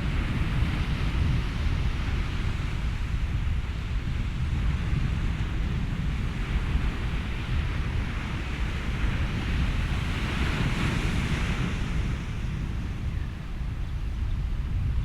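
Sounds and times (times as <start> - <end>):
ocean waves: 0.0 - 15.0
wind: 0.0 - 15.0.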